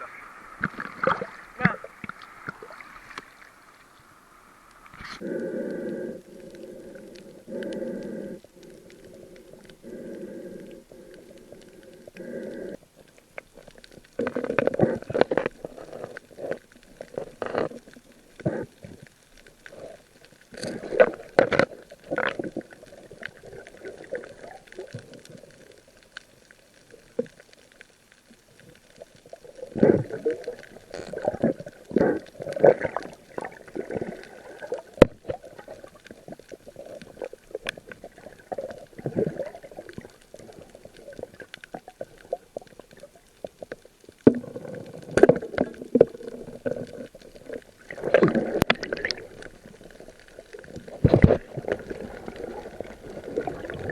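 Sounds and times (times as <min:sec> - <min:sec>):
water gurgling and sloshing: 0:00.0 - 0:53.9.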